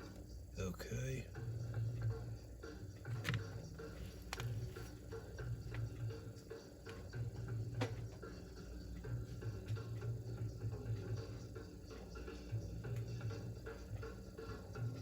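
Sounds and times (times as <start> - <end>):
low uneven hum: 0.0 - 15.0.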